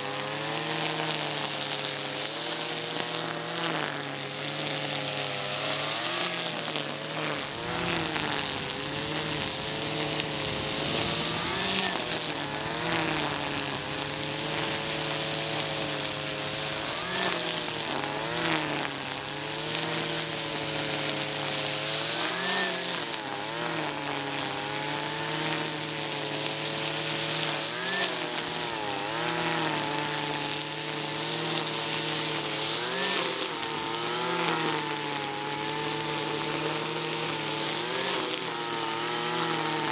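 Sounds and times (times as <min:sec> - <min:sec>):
brush cutter engine at high revs: 0:00.0 - 0:39.9
hiss of cut vegetation: 0:00.0 - 0:39.9.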